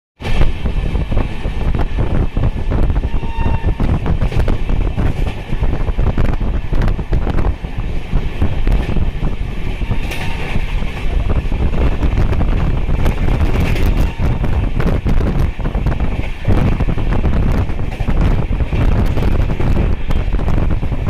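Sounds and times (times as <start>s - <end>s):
train clicks and clatter: 0.2s - 21.0s
train wheels rumbling on rails: 0.2s - 21.0s
wind buffeting microphone: 0.2s - 21.0s.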